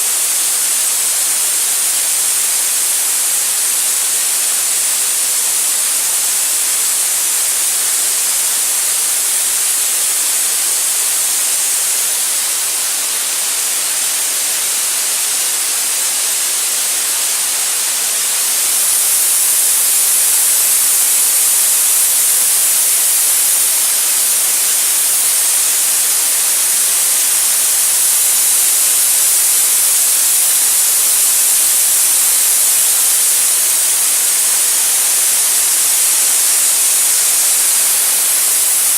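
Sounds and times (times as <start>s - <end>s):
air compressor hissing: 0.0s - 38.9s.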